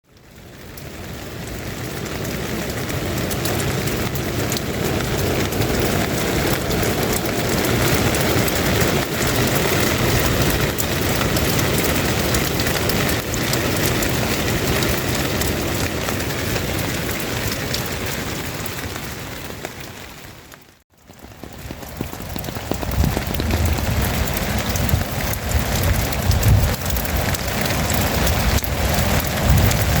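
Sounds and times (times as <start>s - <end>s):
rain falling hard: 0.0s - 30.0s.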